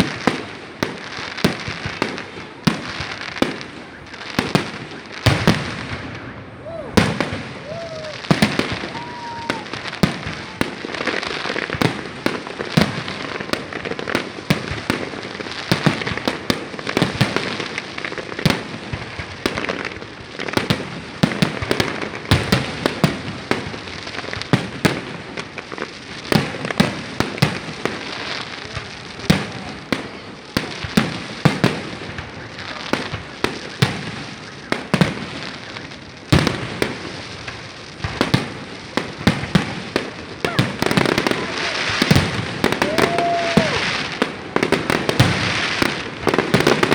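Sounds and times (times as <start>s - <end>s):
fireworks bangs: 0.0s - 46.9s
fireworks crackling: 0.0s - 46.9s.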